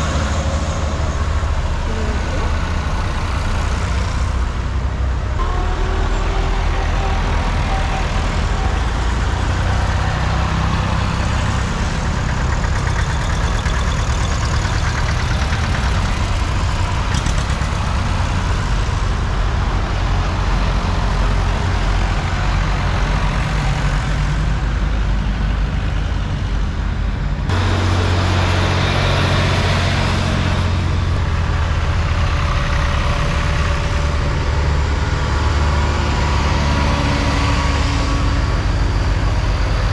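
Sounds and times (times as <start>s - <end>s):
deep tractor engine: 0.0s - 39.9s
tractor engines passing: 0.0s - 39.9s.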